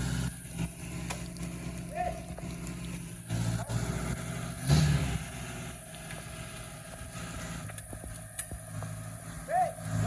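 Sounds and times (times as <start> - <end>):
engine running and revving: 0.0 - 10.0.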